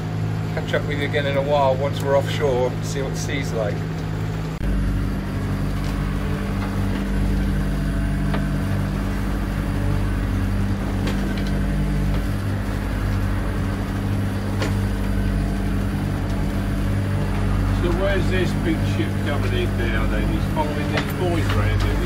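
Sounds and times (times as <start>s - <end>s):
boat engine running: 0.0s - 22.0s
choppy water on hull: 0.0s - 22.0s.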